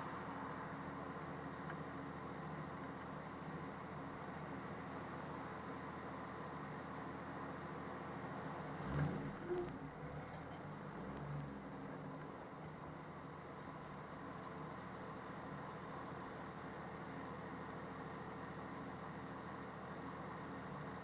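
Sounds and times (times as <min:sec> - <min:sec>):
car engine running steadily: 0:00.0 - 0:21.0.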